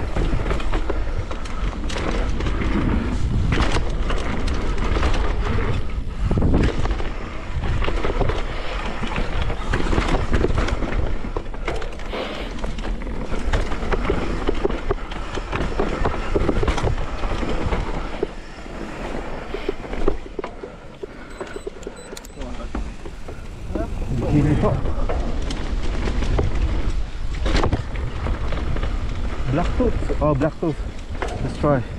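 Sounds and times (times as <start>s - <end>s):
bike tyres rolling over dirt: 0.0s - 21.8s, 22.4s - 31.9s.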